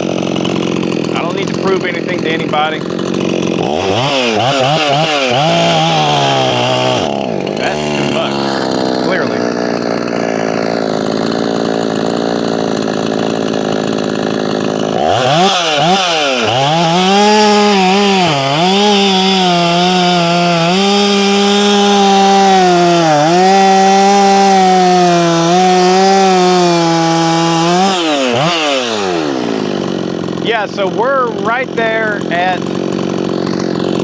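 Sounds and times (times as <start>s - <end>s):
chainsaw cutting at full throttle: 0.0s - 34.0s.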